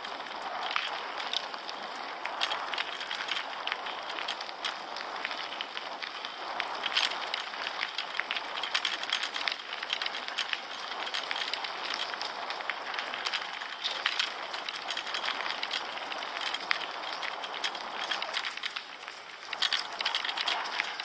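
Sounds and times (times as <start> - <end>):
bike tyres crunching on gravel: 0.0 - 21.0.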